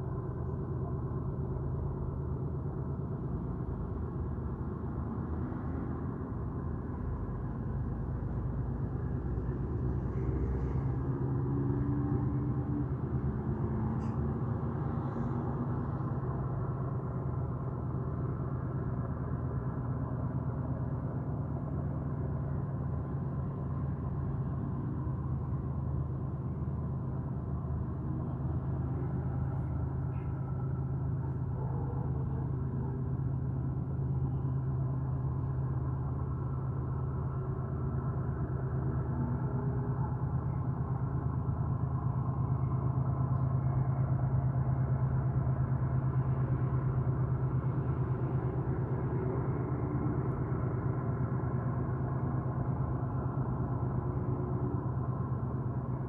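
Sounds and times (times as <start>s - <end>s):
low droning hum: 0.0s - 56.0s.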